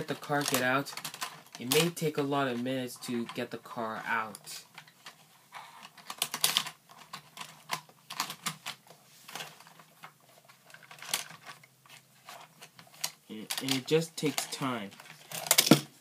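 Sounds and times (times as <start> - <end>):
toy cars clicking and rattling: 0.0 - 5.2, 5.8 - 15.9.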